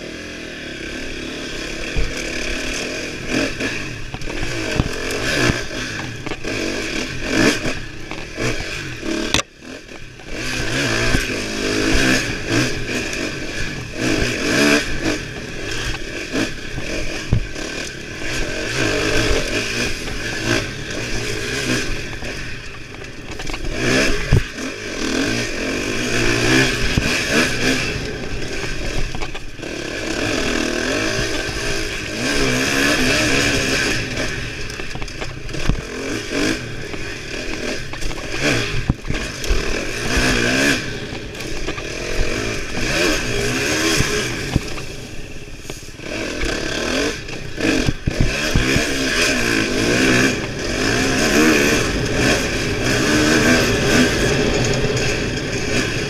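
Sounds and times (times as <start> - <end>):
dirt bike engine revving: 0.0 - 56.0
bike knocking and clattering: 1.7 - 56.0.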